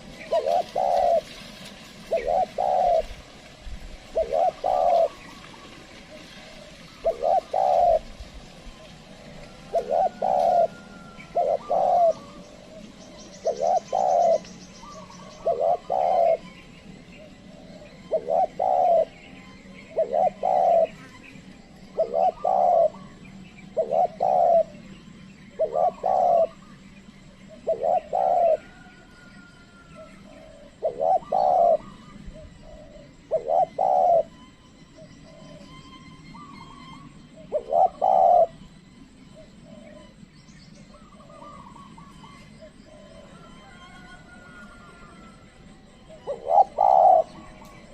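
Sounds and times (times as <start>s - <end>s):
dove cooing: 0.0s - 47.9s
faint bird chirps: 0.0s - 47.9s.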